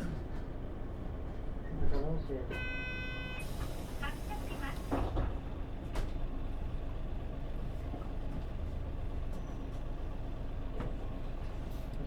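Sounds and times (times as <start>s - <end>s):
bus diesel engine rumbling: 0.0s - 2.5s, 3.3s - 12.0s.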